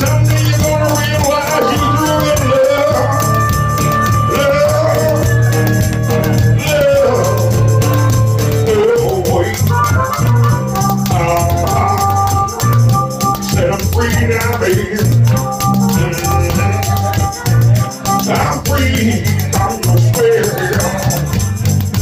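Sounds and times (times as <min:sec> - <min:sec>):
live band music: 0:00.0 - 0:22.0
spoons clacking in fast rhythm: 0:00.0 - 0:22.0.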